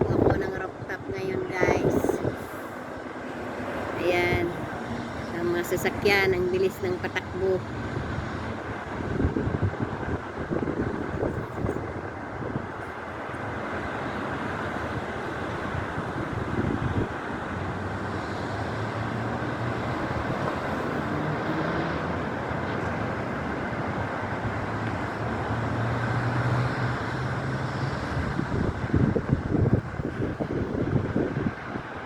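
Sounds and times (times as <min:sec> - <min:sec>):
cars passing at speed: 0:00.0 - 0:32.0
wind gusts buffeting microphone: 0:00.0 - 0:32.0.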